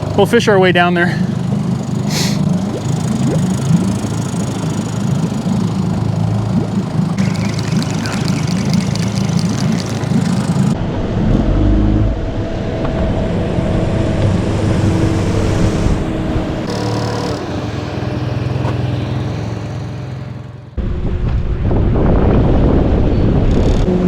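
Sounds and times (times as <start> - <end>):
boat motor running: 0.0 - 10.8, 11.4 - 20.8.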